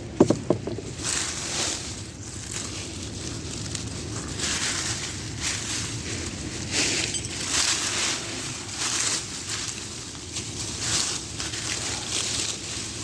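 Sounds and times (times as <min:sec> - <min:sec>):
dry leaves rustling and crunching: 0:00.0 - 0:13.0
steady low rumble: 0:00.0 - 0:13.0.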